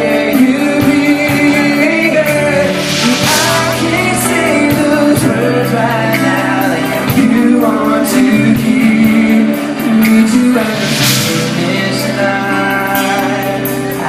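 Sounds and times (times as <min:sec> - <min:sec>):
guitar: 0:00.0 - 0:14.0
person singing: 0:00.0 - 0:14.0.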